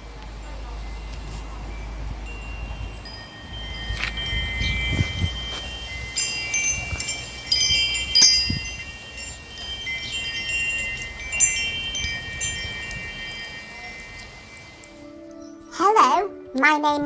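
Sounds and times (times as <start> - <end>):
bright chime notes: 0.5 - 15.0.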